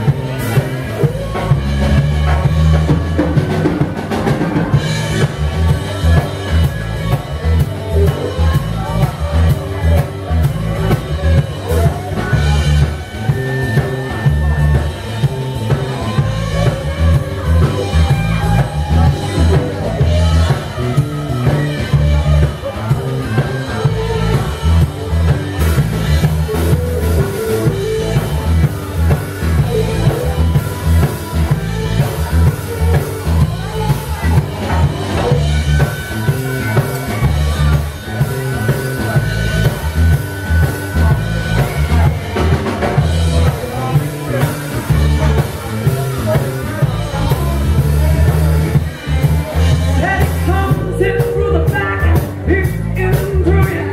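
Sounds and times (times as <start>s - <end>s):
drum kit steady beat: 0.0s - 53.9s
electric bass: 0.0s - 53.9s
electric guitar: 0.0s - 53.9s.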